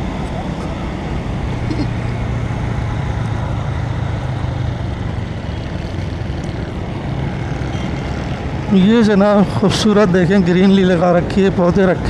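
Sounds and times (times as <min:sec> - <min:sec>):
motorcycle engine running: 0:00.0 - 0:11.8
road traffic rushing: 0:00.0 - 0:12.0.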